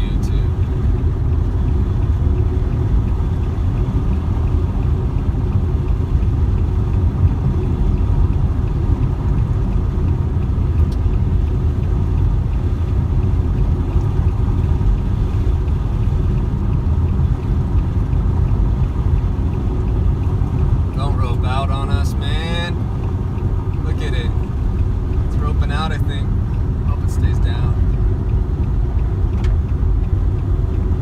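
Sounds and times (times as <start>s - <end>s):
car driving rumble: 0.0s - 31.0s.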